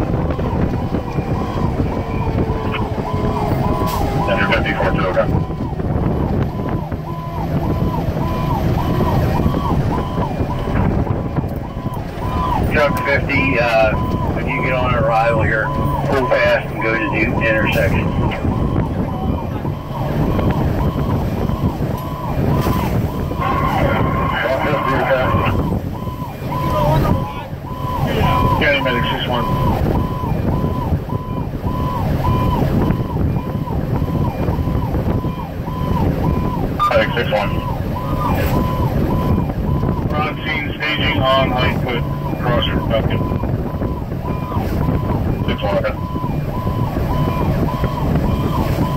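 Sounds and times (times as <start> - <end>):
fire engine siren yelping: 0.0 - 48.9
low engine and road rumble: 0.0 - 48.9.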